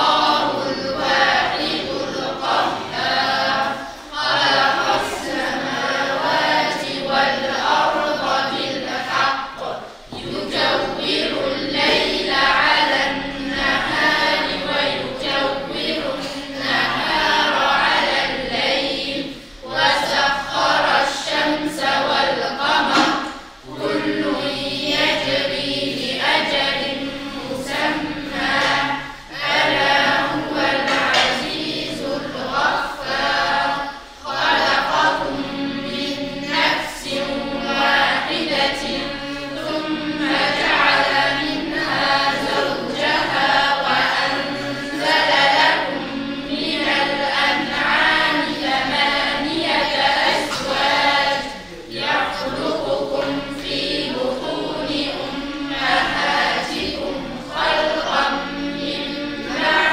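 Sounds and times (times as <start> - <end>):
children reciting in unison: 0.0 - 59.9.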